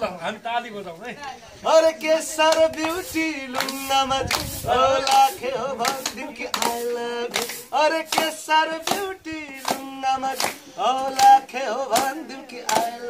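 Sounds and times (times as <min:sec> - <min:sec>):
person singing unaccompanied: 0:01.6 - 0:13.0
group clapping: 0:02.3 - 0:13.0.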